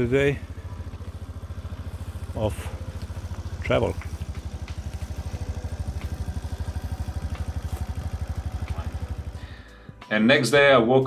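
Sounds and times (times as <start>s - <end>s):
scooter engine idling: 0.0s - 9.9s.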